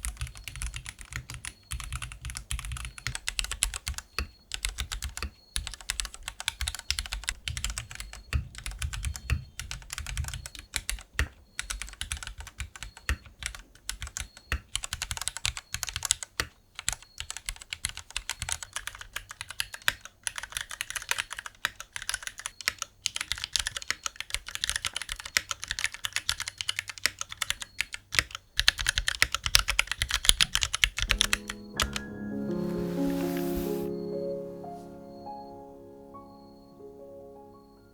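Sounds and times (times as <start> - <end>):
fast typing on mechanical keyboard: 0.0 - 31.6.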